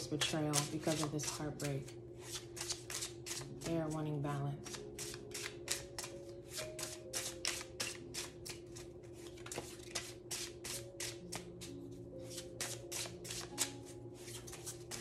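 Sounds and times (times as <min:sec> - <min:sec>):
cards being shuffled: 0:00.2 - 0:03.8, 0:04.6 - 0:15.0.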